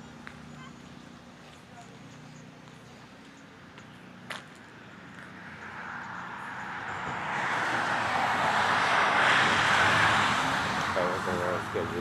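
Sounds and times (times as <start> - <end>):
vehicle approaching on road: 0.0 - 12.0.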